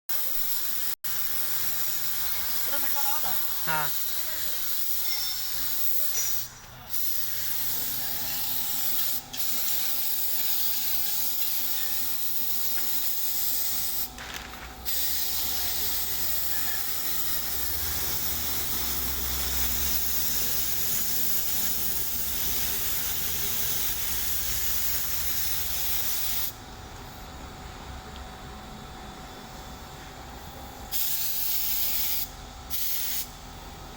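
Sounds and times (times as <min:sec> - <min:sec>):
spray gun hissing: 0:00.1 - 0:14.1, 0:14.9 - 0:26.6, 0:30.9 - 0:33.3.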